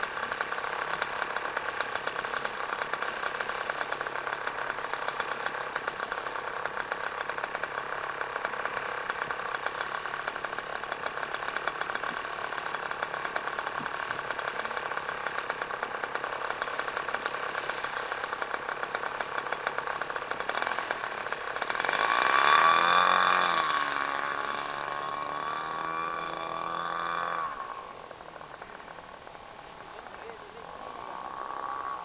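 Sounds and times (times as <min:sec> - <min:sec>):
model plane engine running: 0:00.0 - 0:32.0.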